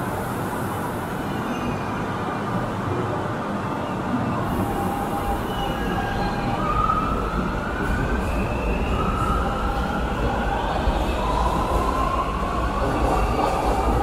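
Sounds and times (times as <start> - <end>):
low rumble of train: 0.0 - 14.0.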